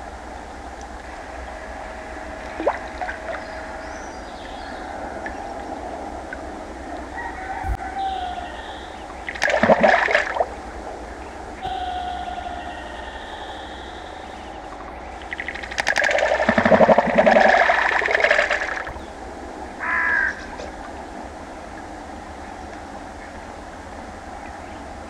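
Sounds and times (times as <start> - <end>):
steady outdoor hush: 0.0 - 25.0
birds calling: 1.0 - 19.2, 19.8 - 23.6.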